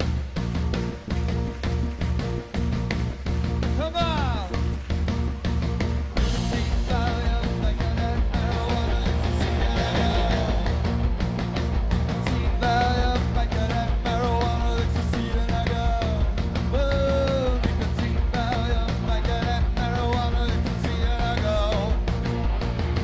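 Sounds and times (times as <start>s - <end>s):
rock music: 0.0s - 23.0s.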